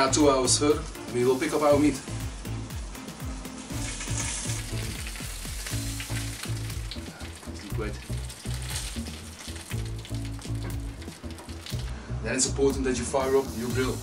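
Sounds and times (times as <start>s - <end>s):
background music with bass: 0.0s - 14.0s
meat sizzling on grill: 0.2s - 11.9s, 13.0s - 14.0s.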